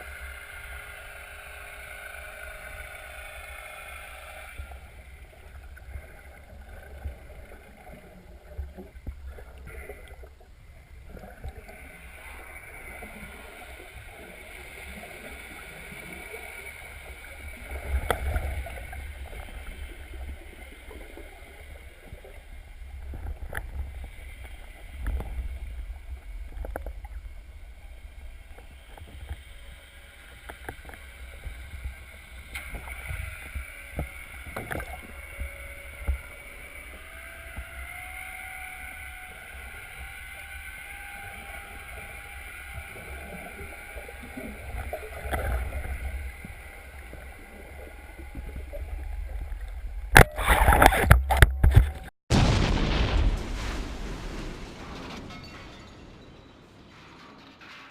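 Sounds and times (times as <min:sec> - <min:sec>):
water noise with low rumble: 0:00.0 - 0:57.9.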